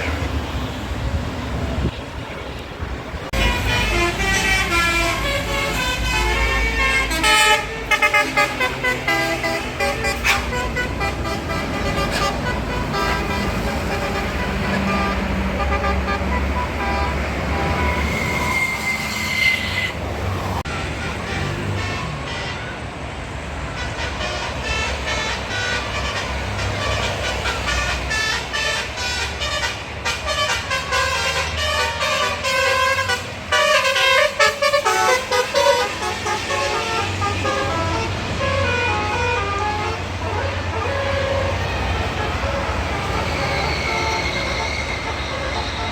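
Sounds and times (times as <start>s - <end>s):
bus engine rumble: 0.0s - 45.9s
bus horn playing a tune: 3.3s - 20.0s, 20.6s - 22.9s, 23.7s - 45.9s.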